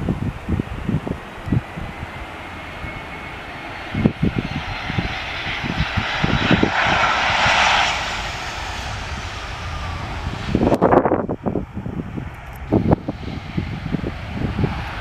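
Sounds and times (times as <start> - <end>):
airliner engines passing: 0.0 - 15.0
faint high whine: 0.0 - 15.0
wind rumbling on microphone: 0.0 - 15.0.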